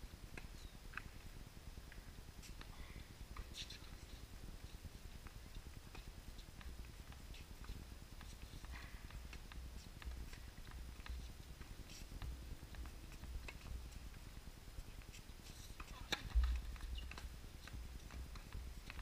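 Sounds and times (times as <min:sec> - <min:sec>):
light footsteps: 0:01.8 - 0:19.0.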